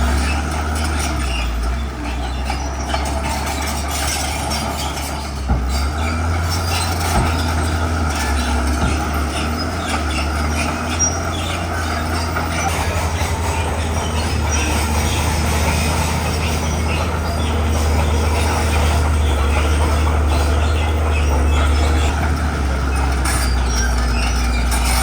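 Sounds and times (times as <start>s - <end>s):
crawler tracks clanking: 0.0s - 25.0s
diesel engine drone: 0.0s - 25.0s.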